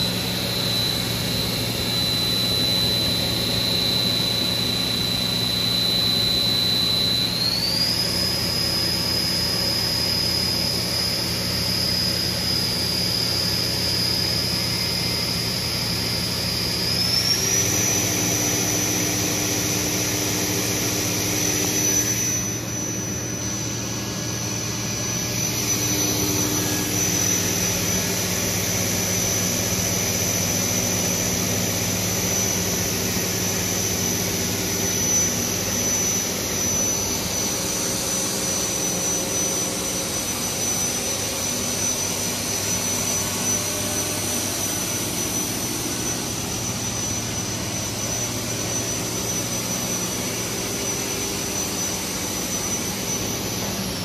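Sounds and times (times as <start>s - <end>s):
high spindle whine: 0.0s - 54.0s
low machine hum: 0.0s - 54.0s.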